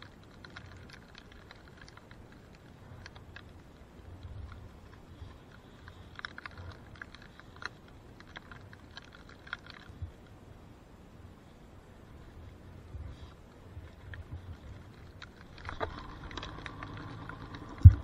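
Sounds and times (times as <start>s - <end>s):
faint low rumble: 0.0s - 18.0s.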